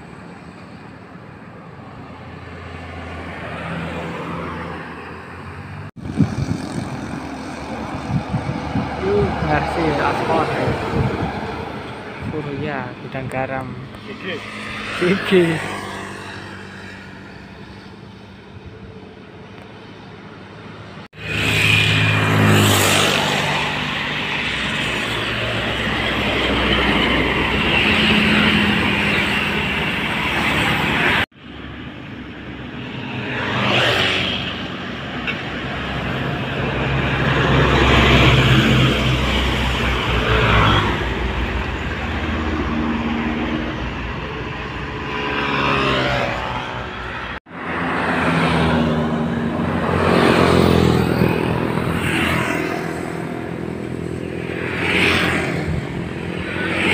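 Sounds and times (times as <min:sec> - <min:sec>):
cars and motorcycles passing: 0:00.0 - 0:56.9.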